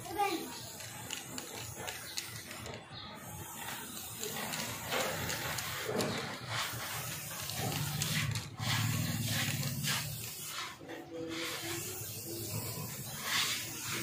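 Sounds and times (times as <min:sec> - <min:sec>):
spray paint hissing: 0:00.0 - 0:14.0.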